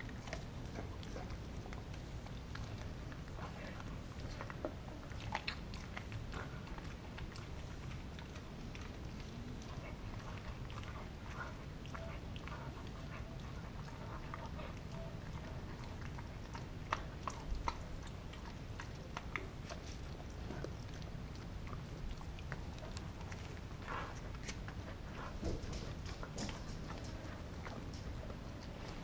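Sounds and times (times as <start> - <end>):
dog chewing frozen meat: 0.0 - 29.0.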